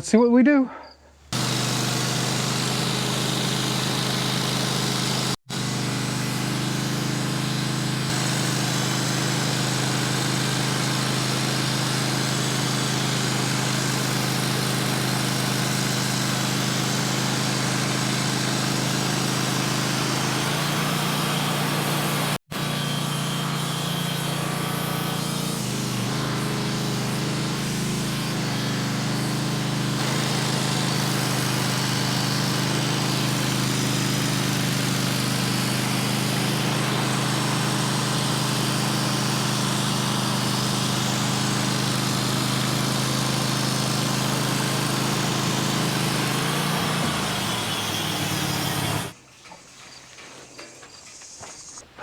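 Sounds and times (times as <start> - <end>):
sawmill engine running under load: 1.3 - 49.2.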